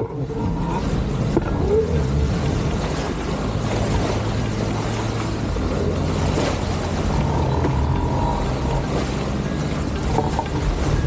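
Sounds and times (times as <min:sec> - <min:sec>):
low steady hum: 0:00.0 - 0:11.0
water rushing along a hull: 0:00.0 - 0:11.0
wind buffeting microphone: 0:00.0 - 0:11.0.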